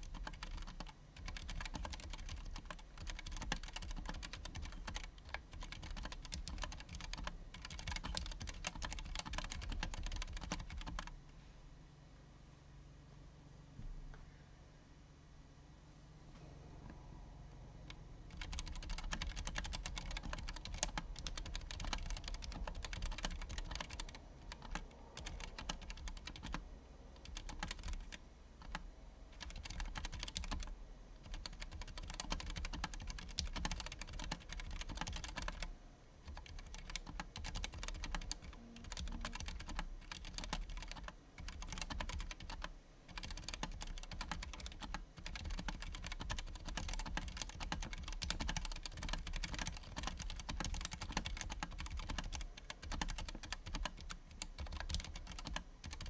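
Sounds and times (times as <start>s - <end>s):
fast typing on mechanical keyboard: 0.0s - 11.1s, 17.8s - 26.6s, 27.2s - 56.0s.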